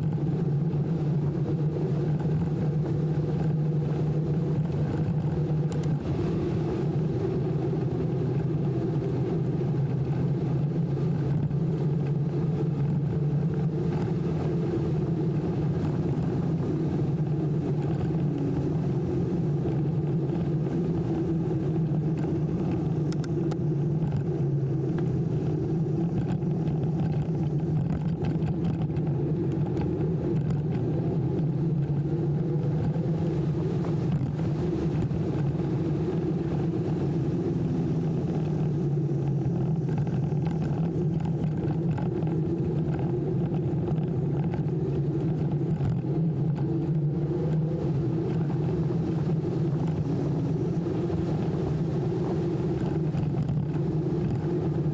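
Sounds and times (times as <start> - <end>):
wind on microphone: 0.0 - 54.9
tyre noise on asphalt: 6.8 - 54.9.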